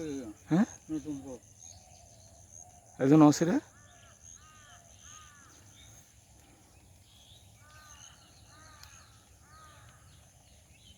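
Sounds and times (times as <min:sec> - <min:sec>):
faint bird calls: 0:00.0 - 0:10.9
higher bird chirps: 0:00.0 - 0:10.9.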